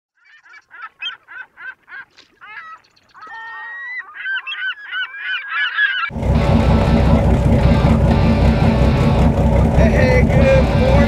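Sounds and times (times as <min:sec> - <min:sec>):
flock of birds calling: 0:00.2 - 0:09.4
honking bird calls: 0:00.2 - 0:11.0.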